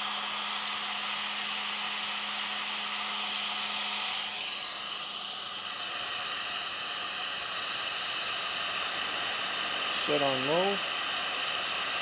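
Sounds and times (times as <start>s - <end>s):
heat gun fan and airflow: 0.0s - 12.0s.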